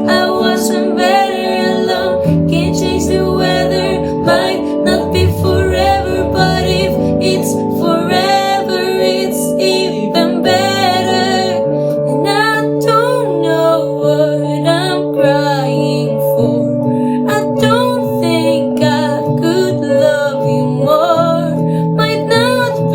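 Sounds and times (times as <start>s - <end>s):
woman singing a pop ballad: 0.0s - 22.9s.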